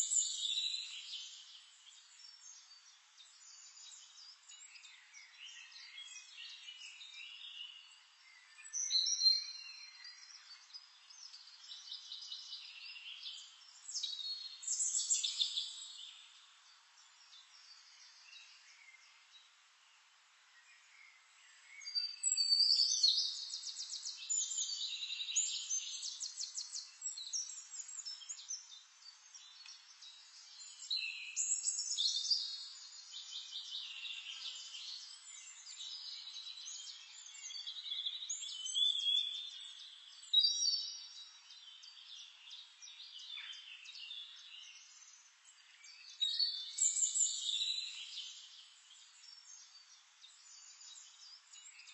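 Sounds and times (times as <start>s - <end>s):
songbirds chirping and trilling: 0.0s - 51.9s.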